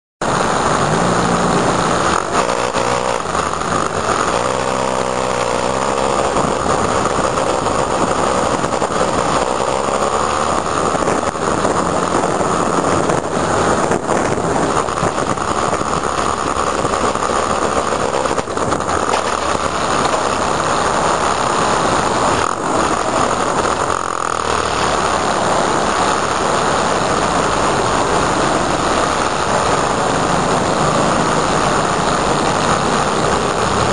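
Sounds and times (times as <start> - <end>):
motorcycle engine: 0.2 - 33.9
wind noise on microphone: 0.2 - 33.9.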